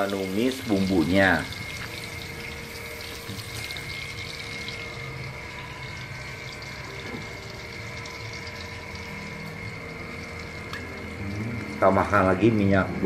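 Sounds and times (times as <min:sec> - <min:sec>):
hot oil sizzling in a wok: 0:00.0 - 0:13.0
steady hum: 0:00.0 - 0:13.0.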